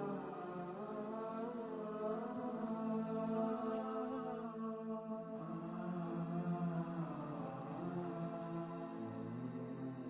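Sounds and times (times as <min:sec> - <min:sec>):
slow chant-like music: 0:00.0 - 0:10.0.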